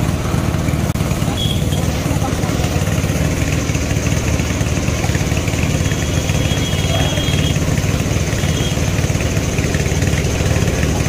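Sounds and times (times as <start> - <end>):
motor chugging: 1.4 - 11.0.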